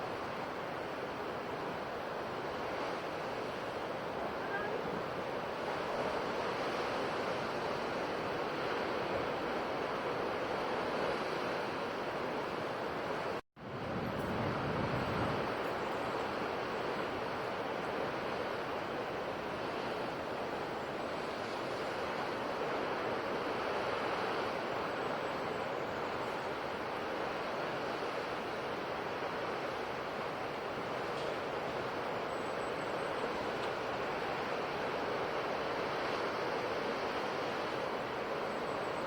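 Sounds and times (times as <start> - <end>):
sea waves washing ashore: 0.0 - 39.0.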